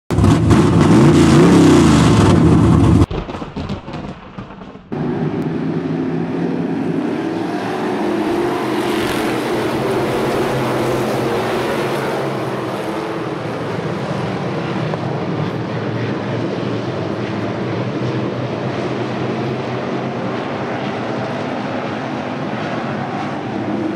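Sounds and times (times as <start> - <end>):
engine revving: 0.1 - 3.1, 4.9 - 23.9
race cars engine drone: 0.1 - 3.1, 4.9 - 23.9.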